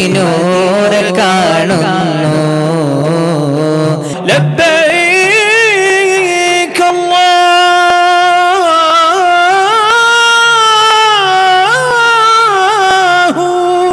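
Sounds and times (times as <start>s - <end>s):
man singing into a microphone: 0.0s - 13.9s.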